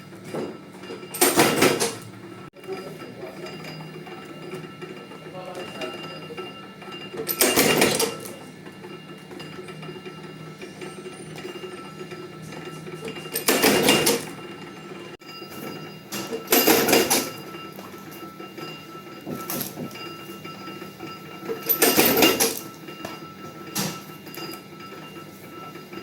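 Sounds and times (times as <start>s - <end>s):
punching machine motor hum: 0.0s - 26.0s.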